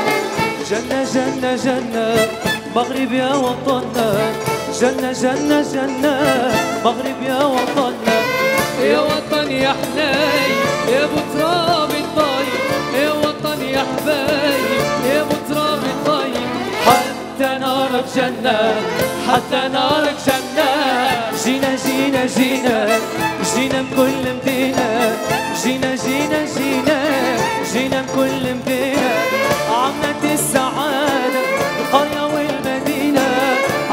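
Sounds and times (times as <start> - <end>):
instrumental accompaniment: 0.0 - 33.9
men singing pop song: 0.0 - 33.9.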